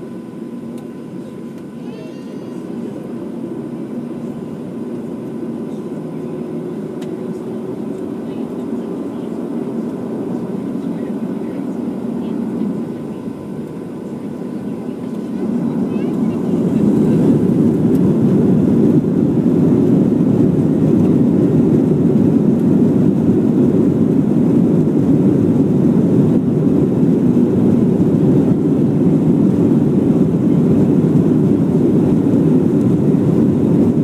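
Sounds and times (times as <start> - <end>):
airplane cabin engine noise: 0.0 - 34.0.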